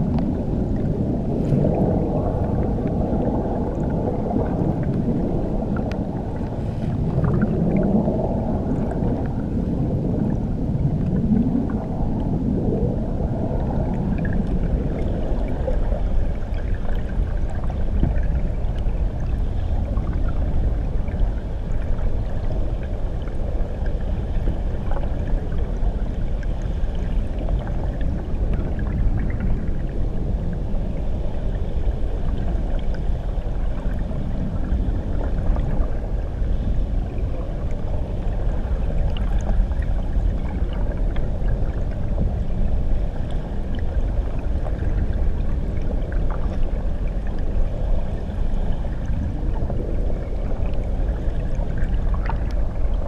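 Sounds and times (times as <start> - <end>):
underwater waterfall rumble: 0.0 - 53.0.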